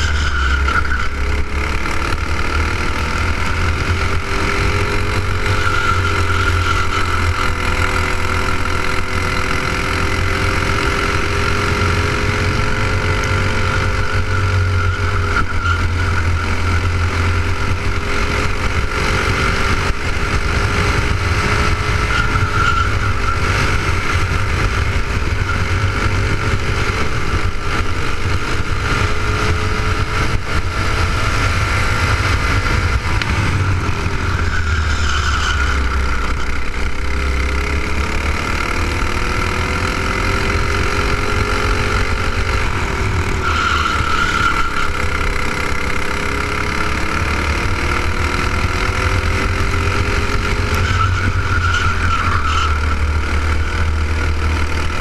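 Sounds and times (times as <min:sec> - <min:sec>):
kart engine at race pace: 0:00.0 - 0:55.0.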